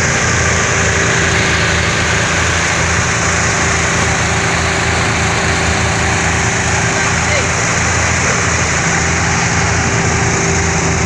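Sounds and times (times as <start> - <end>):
constant hum: 0.0 - 11.0
thresher engine drone: 0.0 - 11.0.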